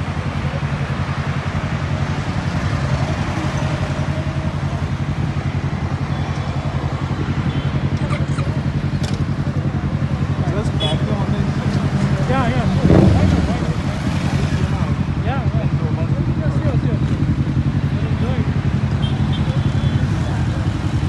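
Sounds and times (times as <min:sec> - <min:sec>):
motorcycle engines idling: 0:00.0 - 0:21.0.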